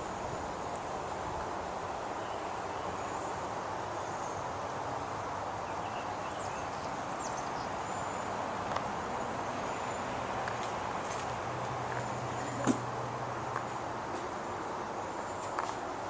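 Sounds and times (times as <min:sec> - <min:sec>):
constant rushing hiss: 0:00.0 - 0:16.0.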